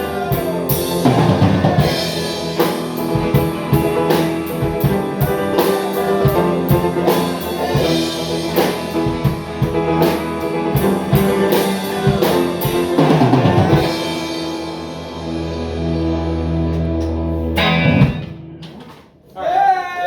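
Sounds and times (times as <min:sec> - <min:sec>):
drum fill: 0:00.0 - 0:16.0, 0:17.6 - 0:18.8
band playing: 0:00.0 - 0:19.0
drum kit beat: 0:00.0 - 0:19.2.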